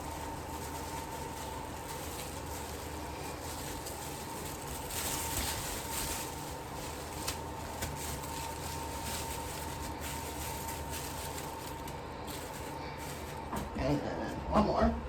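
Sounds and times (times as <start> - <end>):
plastic cap rustling: 0.0 - 13.8
faint electrical hum: 0.0 - 15.0.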